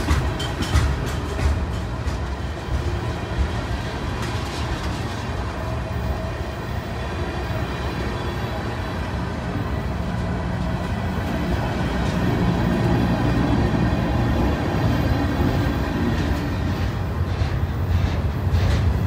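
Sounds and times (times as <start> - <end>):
steel train wheels rumbling on rails: 0.0 - 19.0.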